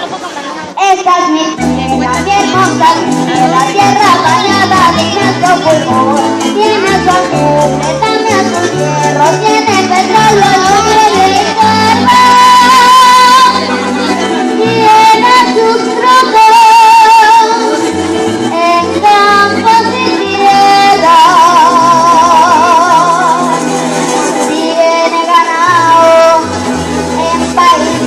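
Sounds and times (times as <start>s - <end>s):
band playing: 0.0s - 28.0s
girl singing with vibrato: 0.8s - 28.0s
bass line: 1.6s - 28.0s.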